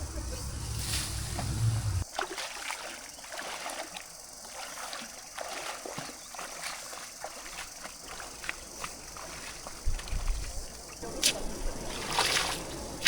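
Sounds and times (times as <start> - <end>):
small water splashes and drips: 2.0 - 12.8
river water trickling over stones: 2.0 - 13.0.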